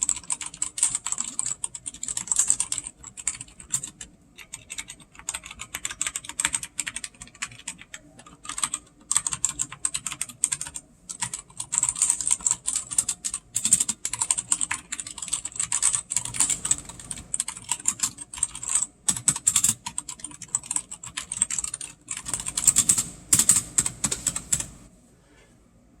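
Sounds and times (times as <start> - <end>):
mechanical keyboard typing: 0.0 - 24.9.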